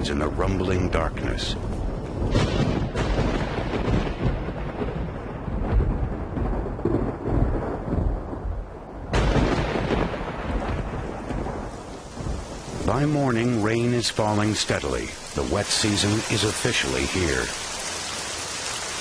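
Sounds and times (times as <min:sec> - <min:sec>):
thunder rumbling: 0:00.0 - 0:19.0
thunder crack: 0:01.3 - 0:17.5.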